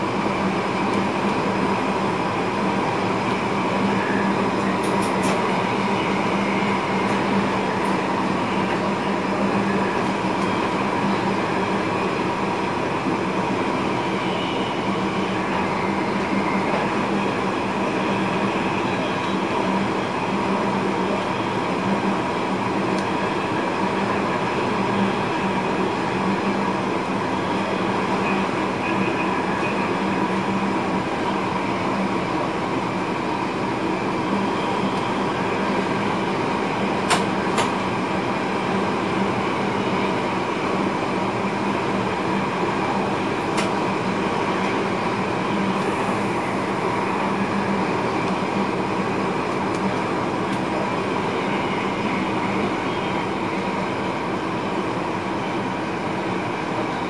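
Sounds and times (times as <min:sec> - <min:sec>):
electric train rolling: 0:00.0 - 0:57.0.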